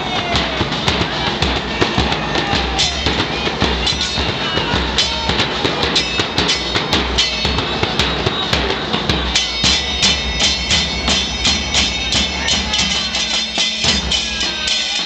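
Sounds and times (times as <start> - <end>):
bass drums beating: 0.0 - 15.0
cymbal crashes: 2.8 - 15.0.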